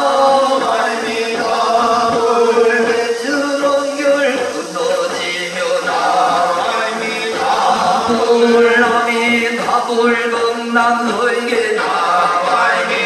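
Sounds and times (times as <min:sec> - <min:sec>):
monks chanting: 0:00.0 - 0:13.0.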